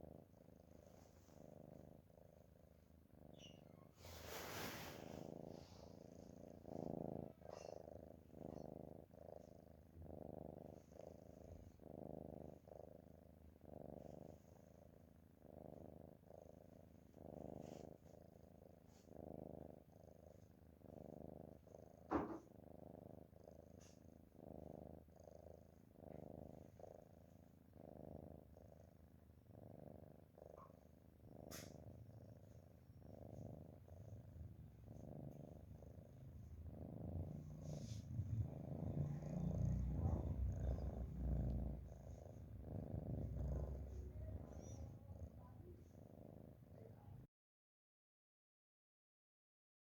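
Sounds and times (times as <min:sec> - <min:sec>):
cat snoring softly: 0:00.0 - 0:47.3.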